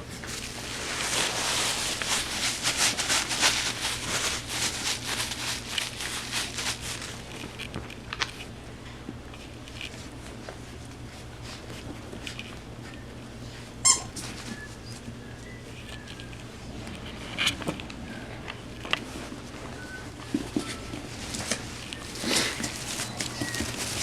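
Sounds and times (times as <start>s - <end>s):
puppies scuffling with paw patter: 0.0s - 24.0s.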